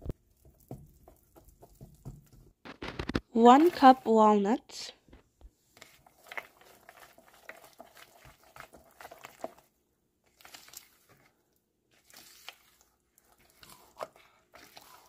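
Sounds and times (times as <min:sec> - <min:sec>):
spatula stirring batter: 0:00.0 - 0:04.4, 0:05.1 - 0:15.0.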